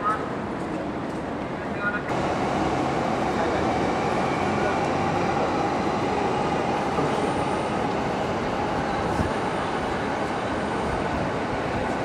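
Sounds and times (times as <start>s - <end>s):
train running on rails: 0.0s - 12.0s.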